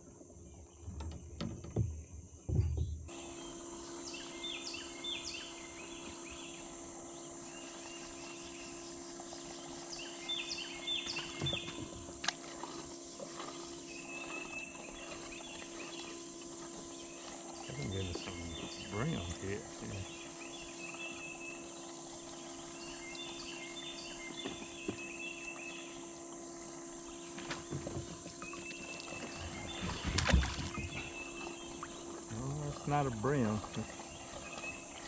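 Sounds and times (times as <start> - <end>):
insects chirring: 0.0 - 35.0
steady low hum: 0.0 - 35.0
bird chirping: 2.5 - 11.9, 13.6 - 26.1, 28.0 - 35.0.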